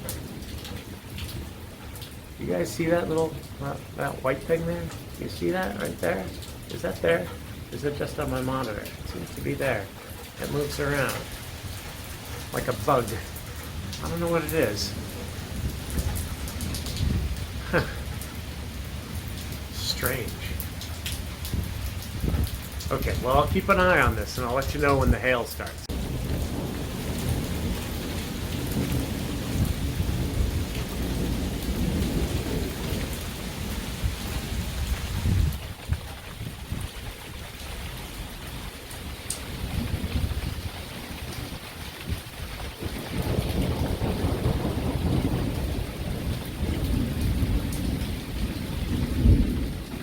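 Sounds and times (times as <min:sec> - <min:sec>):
rolling thunder rumble: 0:00.0 - 0:25.2, 0:25.8 - 0:37.4, 0:38.2 - 0:50.0
heavy rain falling: 0:00.0 - 0:50.0.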